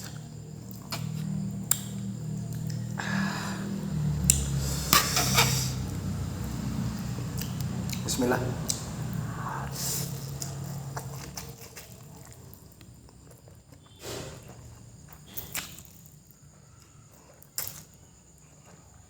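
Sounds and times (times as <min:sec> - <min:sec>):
person chewing noodles: 0:00.0 - 0:19.0.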